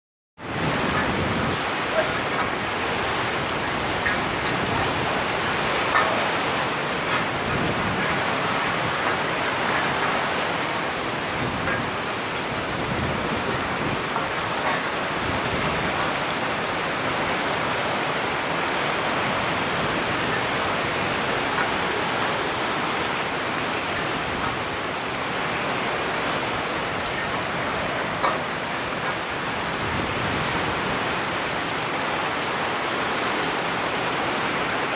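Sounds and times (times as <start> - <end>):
steady rain hiss: 0.4 - 34.9.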